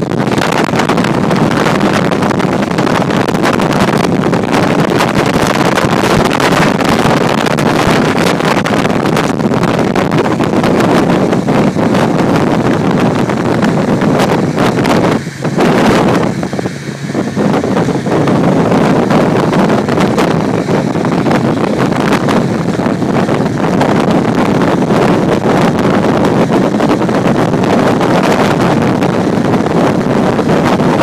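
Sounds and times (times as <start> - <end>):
speeding motorboat and churning wake: 0.0 - 31.0
wind buffeting microphone: 0.0 - 31.0.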